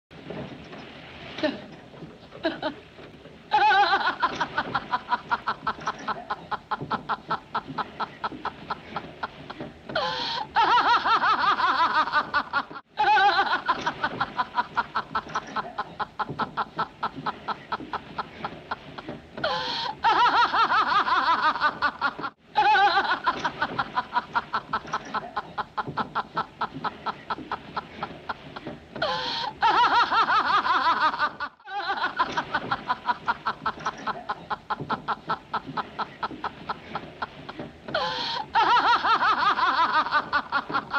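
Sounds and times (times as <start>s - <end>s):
woman laughing loudly: 2.3s - 2.9s, 3.5s - 40.9s.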